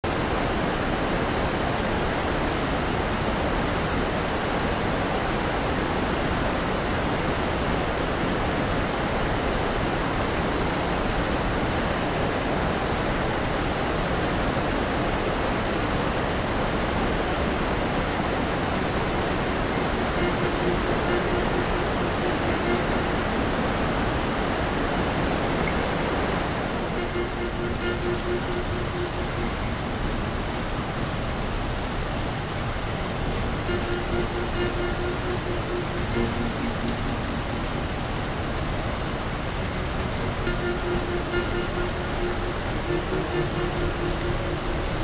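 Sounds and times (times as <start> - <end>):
water rushing through rapids: 0.0 - 45.0.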